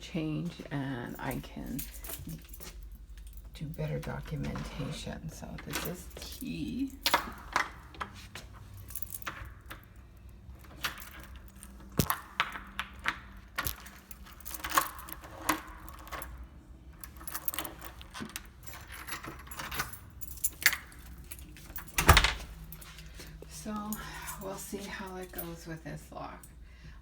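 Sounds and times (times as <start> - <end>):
keys jangling: 1.0 - 4.9, 5.6 - 25.6.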